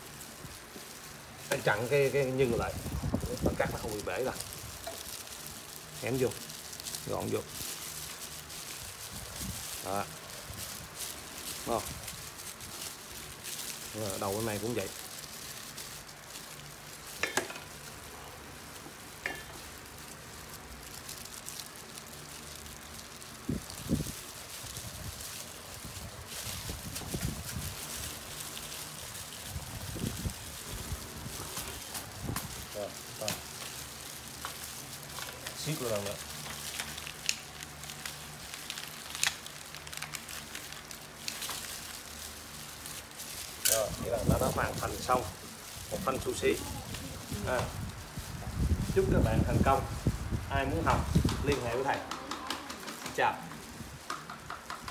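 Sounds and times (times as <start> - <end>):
plastic crinkling: 0.0 - 54.9
plastic gloves crackling: 0.0 - 54.9.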